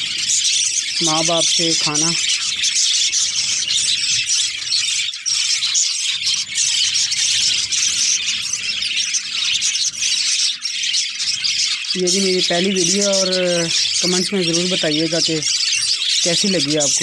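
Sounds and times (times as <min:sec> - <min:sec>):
flock of budgerigars chattering: 0:00.0 - 0:17.0.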